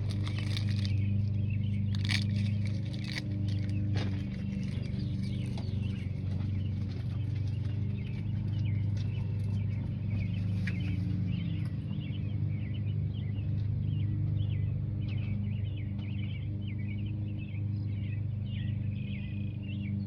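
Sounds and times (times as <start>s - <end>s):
birds chirping: 0.0s - 20.0s
low mechanical hum: 0.0s - 20.0s.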